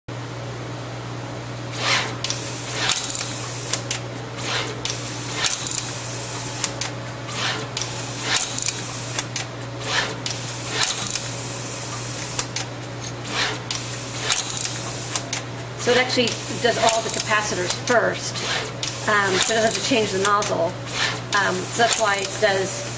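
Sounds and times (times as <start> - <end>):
machine humming: 0.1 - 22.9
sharp machine clicks: 1.8 - 22.7.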